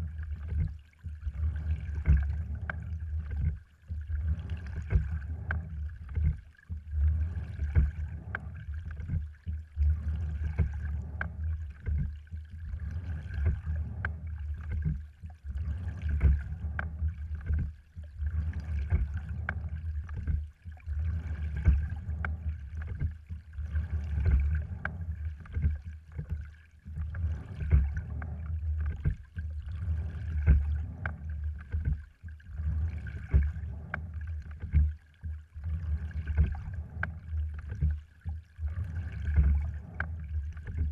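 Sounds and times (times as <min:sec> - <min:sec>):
oars clicking in oarlocks: 0:00.0 - 0:40.9
steady low rumble: 0:00.0 - 0:40.9
water washing along hull: 0:00.0 - 0:40.9.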